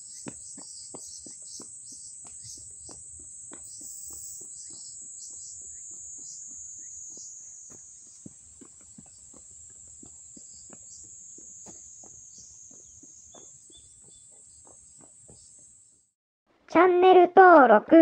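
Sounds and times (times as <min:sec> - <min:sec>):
insects droning in trees: 0:00.0 - 0:16.0.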